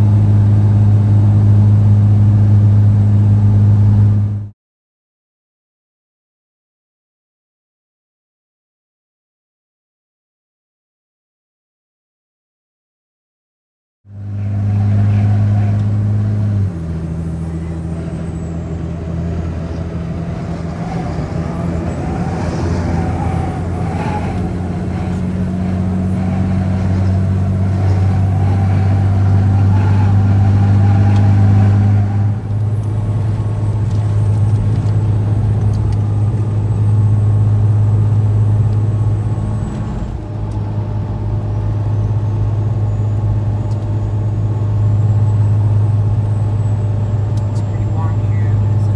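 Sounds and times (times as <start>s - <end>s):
road noise: 0.0s - 4.5s, 14.1s - 48.9s
truck engine drone: 0.0s - 4.5s, 14.1s - 48.9s.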